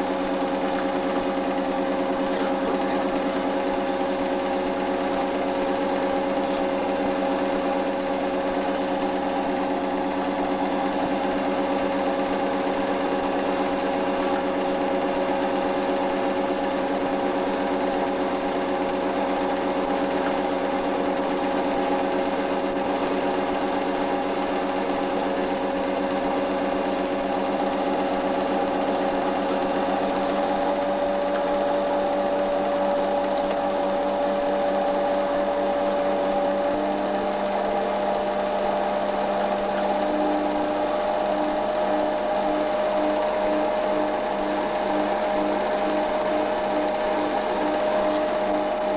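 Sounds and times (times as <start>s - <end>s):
film projector whirring and clattering: 0.0s - 48.9s.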